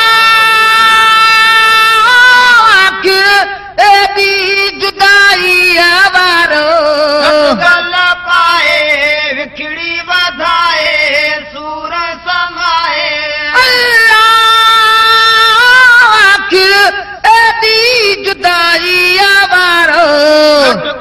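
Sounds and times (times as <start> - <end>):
person singing devotional song: 0.0 - 21.0.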